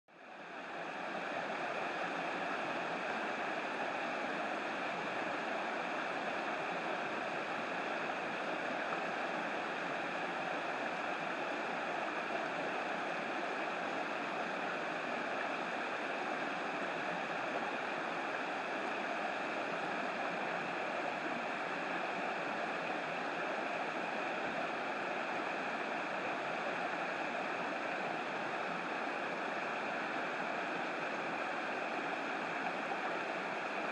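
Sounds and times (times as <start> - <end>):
rain on flowing river: 0.1 - 33.9.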